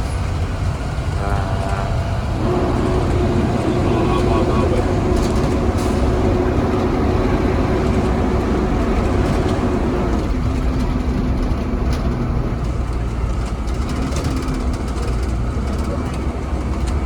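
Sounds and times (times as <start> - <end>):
bus engine and road rumble: 0.0 - 17.0
engine whine: 0.0 - 17.0.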